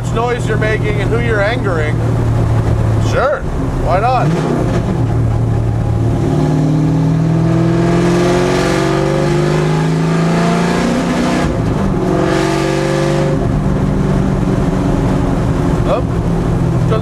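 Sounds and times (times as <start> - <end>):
race car engine accelerating: 0.2 - 17.0.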